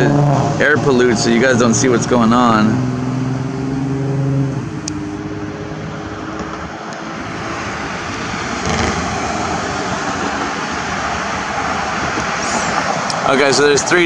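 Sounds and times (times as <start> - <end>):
broad rushing noise: 0.0 - 14.0
engine hum: 0.0 - 14.0.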